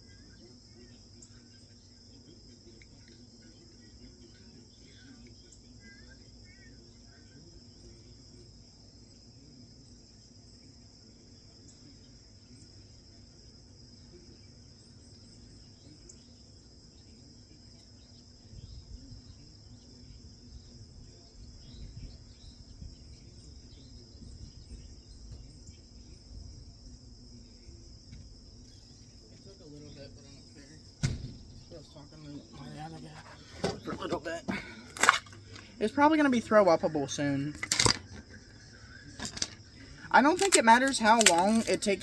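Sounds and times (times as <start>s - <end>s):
crickets chirping: 0.0s - 42.0s.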